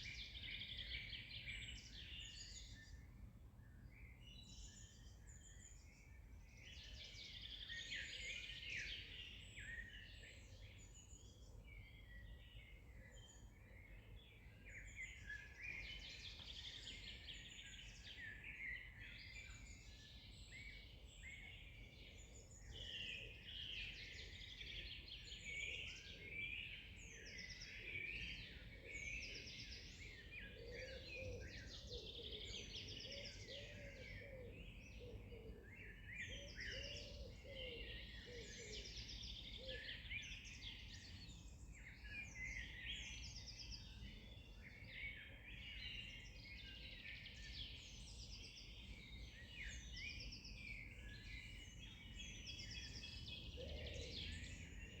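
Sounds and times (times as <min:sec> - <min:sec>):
birds singing and chirping: 0:00.0 - 0:03.1, 0:03.9 - 0:55.0.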